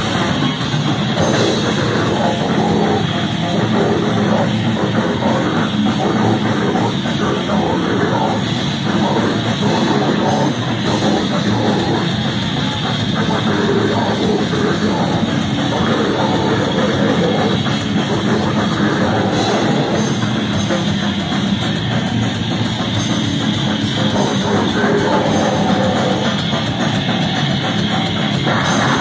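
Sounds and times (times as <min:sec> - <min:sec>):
bass guitar: 0:00.0 - 0:29.0
drum kit: 0:00.0 - 0:29.0
electric guitar: 0:00.0 - 0:29.0.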